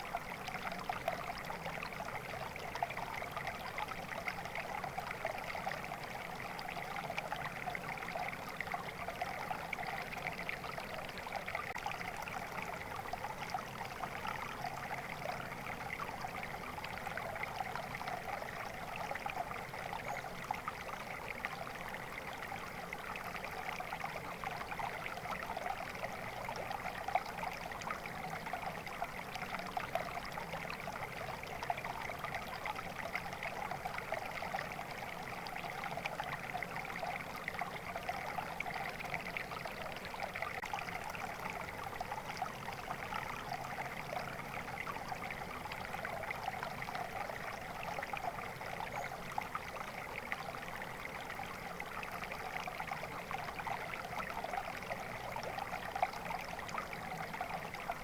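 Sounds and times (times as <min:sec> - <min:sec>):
stream babbling: 0:00.0 - 0:58.0.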